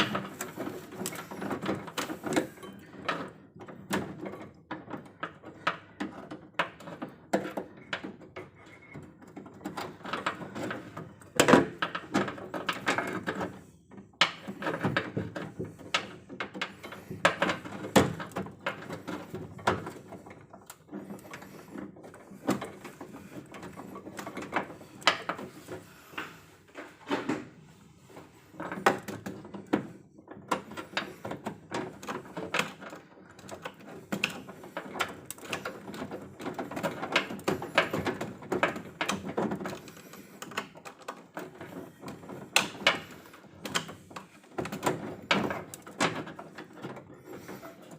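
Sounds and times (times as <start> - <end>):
hand tools clicking and knocking: 0.0 - 13.6, 14.2 - 26.9, 28.6 - 47.9.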